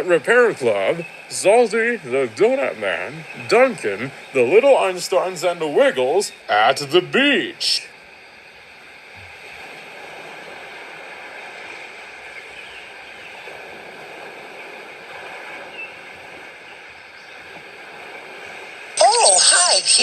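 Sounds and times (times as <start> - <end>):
ocean surf: 0.0 - 20.0.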